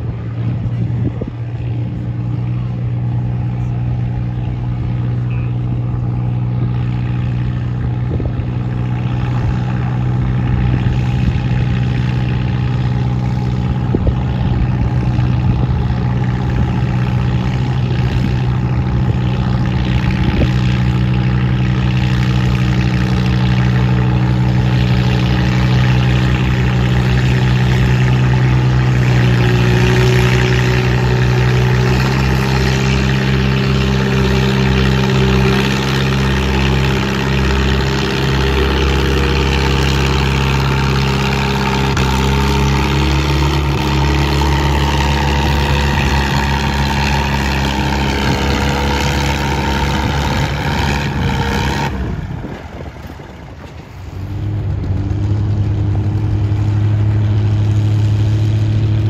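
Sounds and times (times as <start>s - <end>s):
tractor engine under heavy load: 0.0s - 59.0s.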